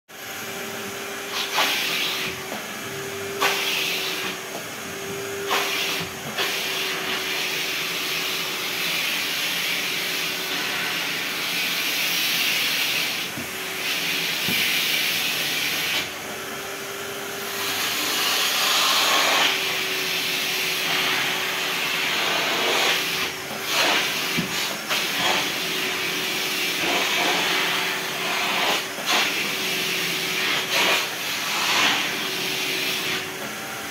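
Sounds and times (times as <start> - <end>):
vacuum cleaner running: 0.1 - 33.9
nozzle sucking over upholstery: 0.2 - 33.9.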